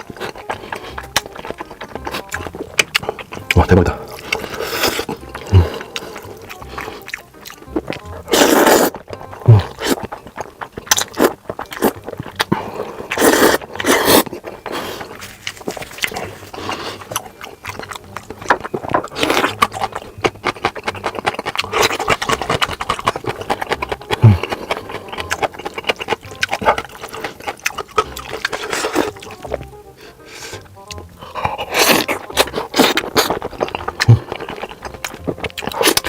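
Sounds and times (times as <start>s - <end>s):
noodles slurped and chewed: 0.0s - 36.0s.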